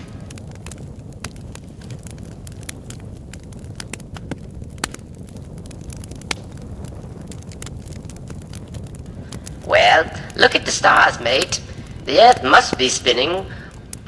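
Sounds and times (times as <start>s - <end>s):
crackling clicks and pops: 0.0s - 14.0s
steady low rumble: 0.0s - 14.0s.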